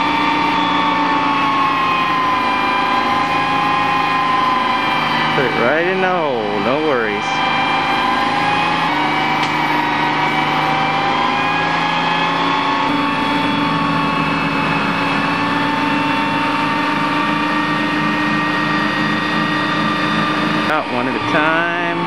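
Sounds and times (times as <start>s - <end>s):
truck engine running under load: 0.0s - 22.0s.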